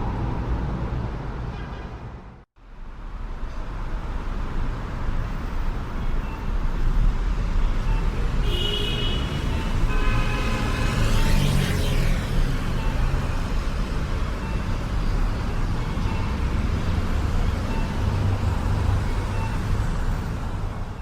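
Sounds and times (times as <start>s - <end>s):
passing vehicles rumbling: 0.0s - 21.0s.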